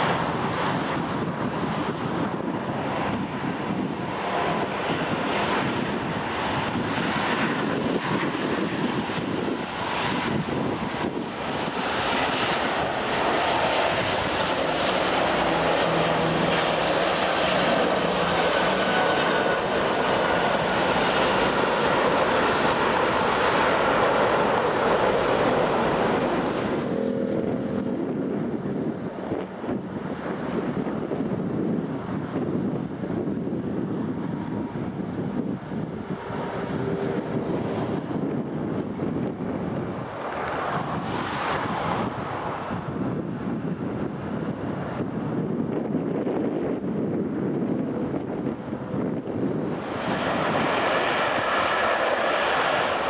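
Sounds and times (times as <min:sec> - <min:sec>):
jet engines at take-off: 0:00.0 - 0:53.0
wind noise on microphone: 0:00.0 - 0:53.0.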